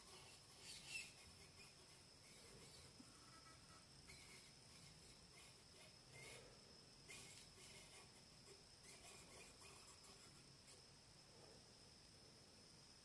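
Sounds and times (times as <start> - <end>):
faint high whine: 0.0 - 13.0
faint high-pitched crackling: 0.0 - 13.0.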